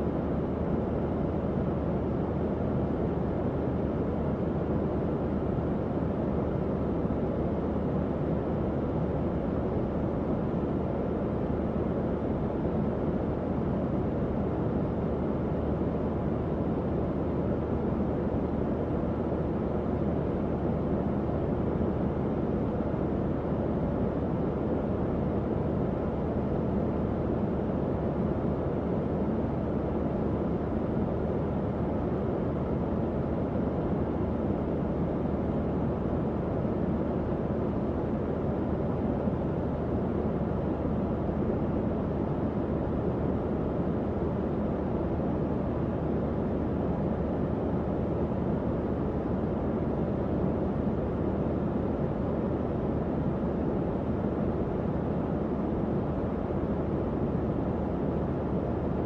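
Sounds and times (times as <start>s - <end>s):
faint hum: 0.0s - 59.0s.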